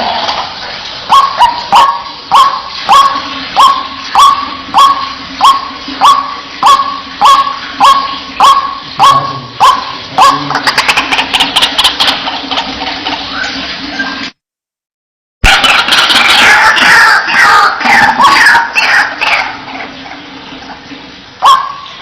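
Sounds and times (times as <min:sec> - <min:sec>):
waterhen calling: 0:01.0 - 0:14.4, 0:15.6 - 0:22.0.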